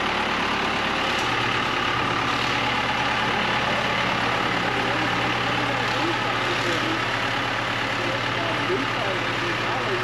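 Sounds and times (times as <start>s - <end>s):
large engine idling: 0.0s - 10.0s.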